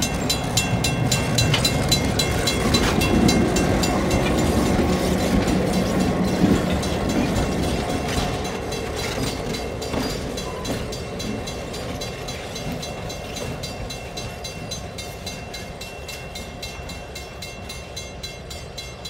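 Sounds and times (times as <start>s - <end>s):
diesel train moving away: 0.0s - 19.0s.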